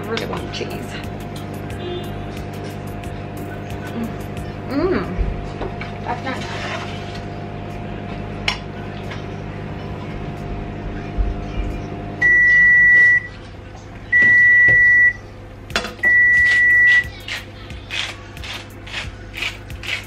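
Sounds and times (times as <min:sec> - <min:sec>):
microwave oven humming: 0:00.0 - 0:20.0.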